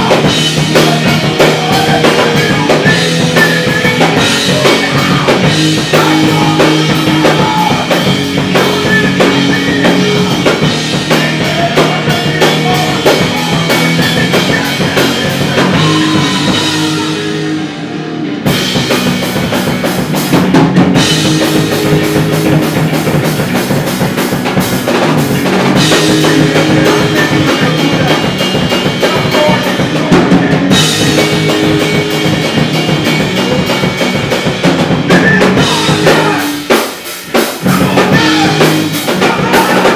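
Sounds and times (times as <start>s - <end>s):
bass guitar: 0.0s - 39.9s
drum kit: 0.0s - 39.9s
electric guitars: 0.0s - 39.9s
hardcore rock band playing loud: 0.0s - 39.9s.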